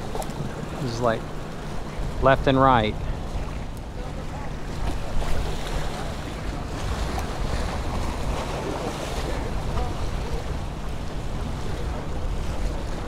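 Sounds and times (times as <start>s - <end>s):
steady low hum: 0.0s - 13.0s
surf washing against rocks: 0.0s - 13.0s
wind buffeting microphone: 0.0s - 13.0s.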